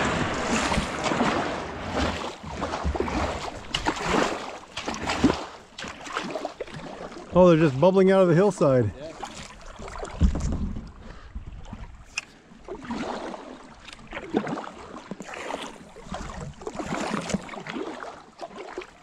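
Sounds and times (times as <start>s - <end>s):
paddle swishing through water: 0.0s - 19.0s.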